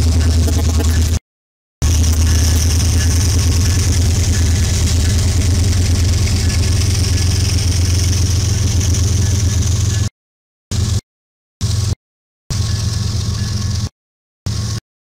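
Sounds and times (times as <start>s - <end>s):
locomotive engine drone: 0.0s - 1.2s, 1.8s - 10.1s, 10.7s - 11.0s, 11.6s - 13.9s, 14.5s - 14.8s.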